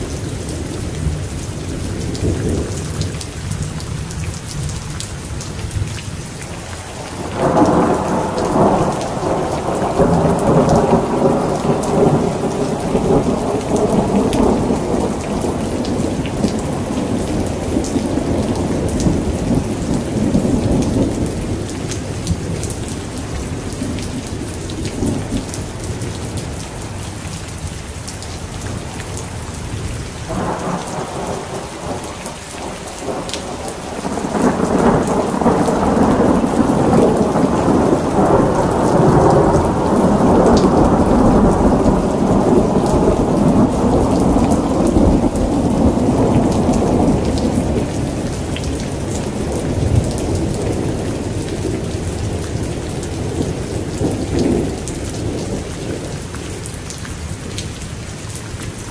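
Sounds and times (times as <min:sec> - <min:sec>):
heavy rain falling: 0:00.0 - 0:58.9
thunder rumbling: 0:07.1 - 0:26.9, 0:28.6 - 0:56.6.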